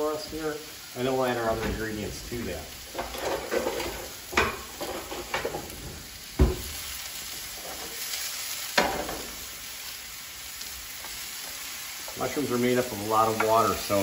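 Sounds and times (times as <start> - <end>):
mushrooms sizzling in frying pan: 0.0 - 14.0.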